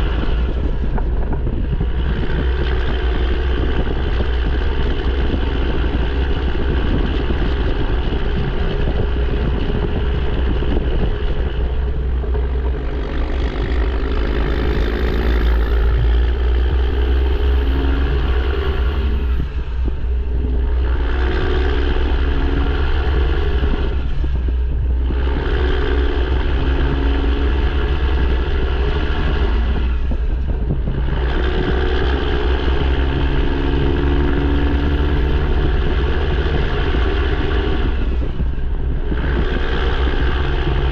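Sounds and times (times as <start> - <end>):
diesel truck engine under load: 0.0 - 40.9.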